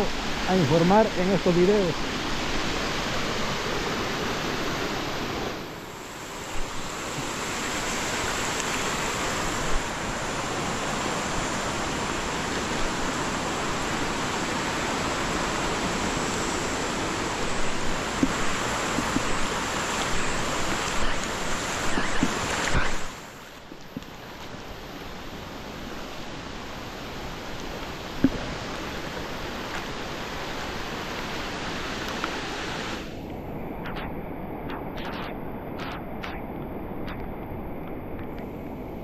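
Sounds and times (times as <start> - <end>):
floodwater rushing: 0.0 - 39.0.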